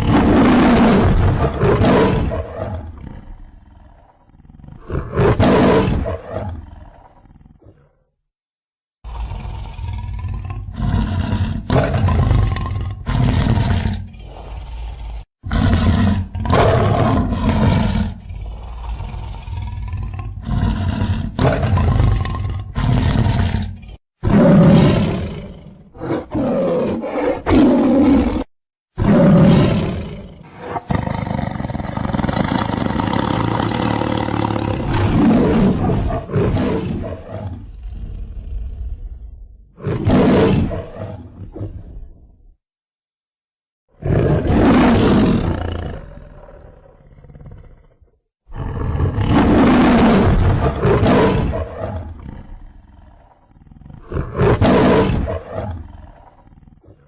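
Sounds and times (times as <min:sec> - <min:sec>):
creature roars: 0:00.0 - 0:08.1, 0:09.0 - 0:42.4, 0:44.0 - 0:57.0.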